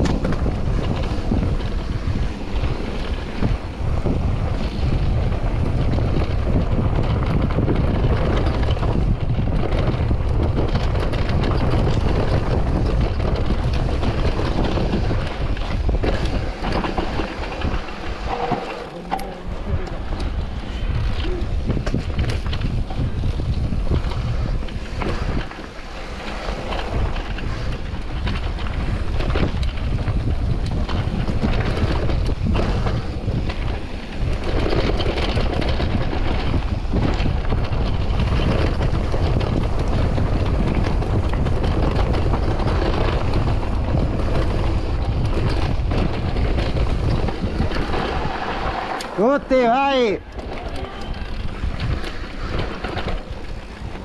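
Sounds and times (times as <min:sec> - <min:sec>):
bike knocking and rattling: 0:00.0 - 0:54.0
steady rumble of bike riding: 0:00.0 - 0:54.0
wind buffeting the microphone: 0:00.0 - 0:54.0.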